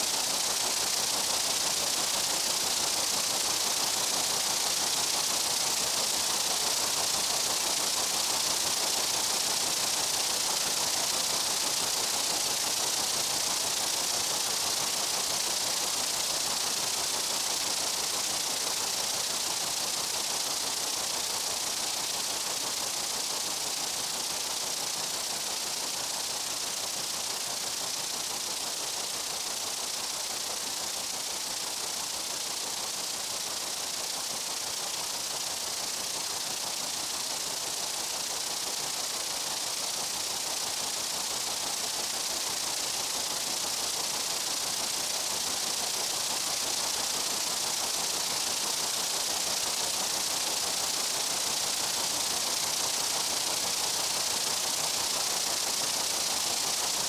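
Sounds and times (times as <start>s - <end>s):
dense hiss of insects: 0.0s - 57.0s.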